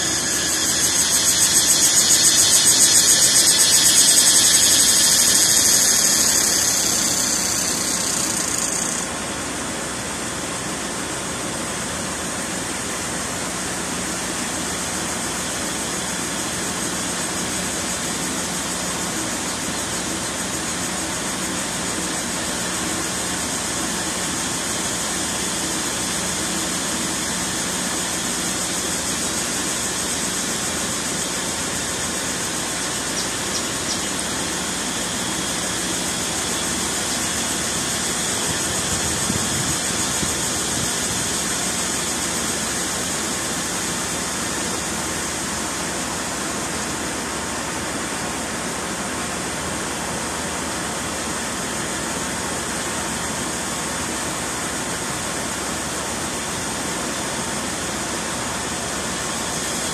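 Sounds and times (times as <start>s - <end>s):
cicada buzzing nearby: 0.0s - 59.9s
cicadas chorusing: 0.0s - 59.9s.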